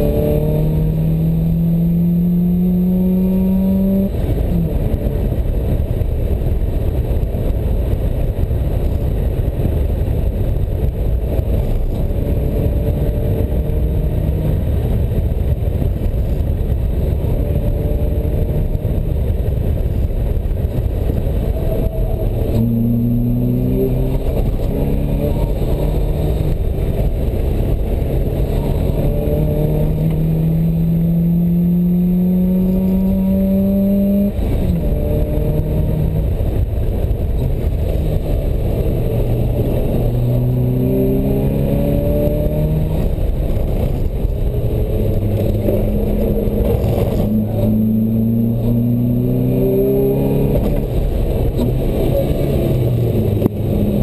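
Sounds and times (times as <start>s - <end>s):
sports car engine revving: 0.0s - 5.7s, 11.3s - 54.0s.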